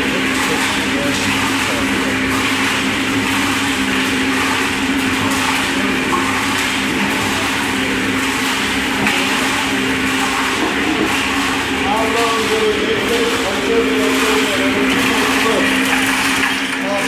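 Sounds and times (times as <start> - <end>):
concrete mixer humming: 0.0 - 17.0.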